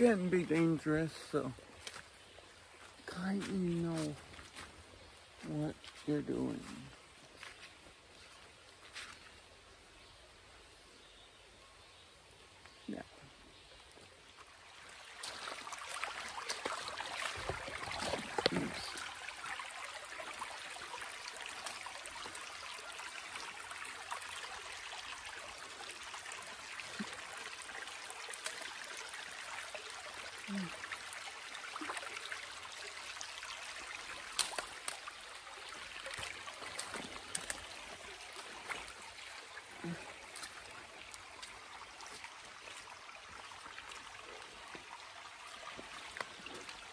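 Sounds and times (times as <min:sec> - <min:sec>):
creek water trickling: 0:00.0 - 0:46.9.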